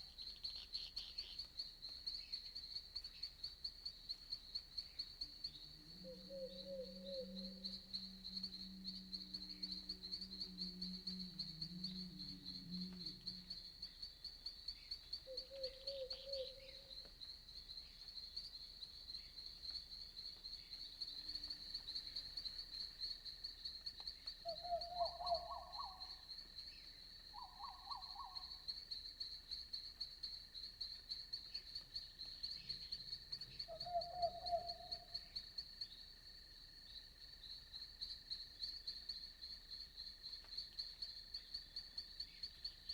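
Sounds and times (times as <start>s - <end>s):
crickets chirring: 0.0s - 42.9s.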